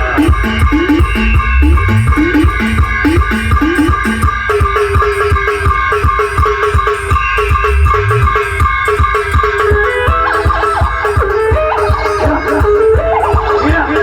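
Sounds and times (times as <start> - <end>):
fast steady drumming: 0.0 - 14.0.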